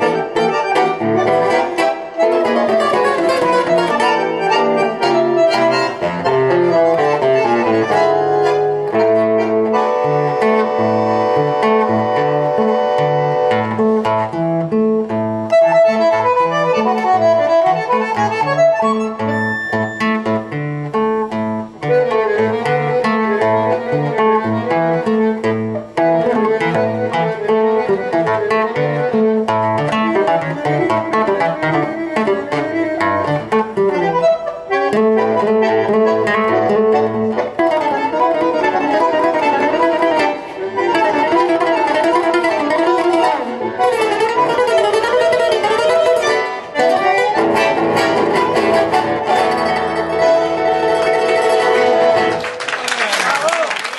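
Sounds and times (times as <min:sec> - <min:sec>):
bandoneon reed chords: 0:00.0 - 0:52.4
plucked acoustic guitar: 0:00.0 - 0:52.6.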